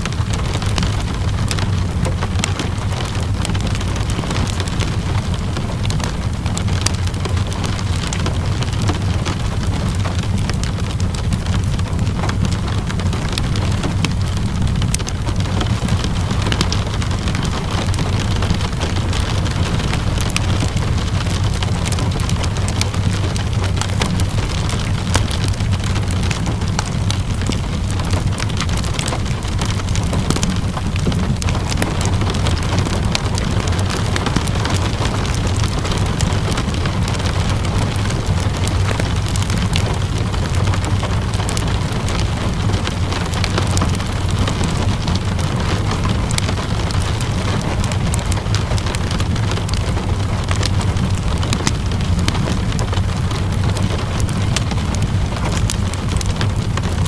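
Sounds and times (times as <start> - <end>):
rain pattering: 0.0 - 57.0
wood fire crackling: 0.0 - 57.0.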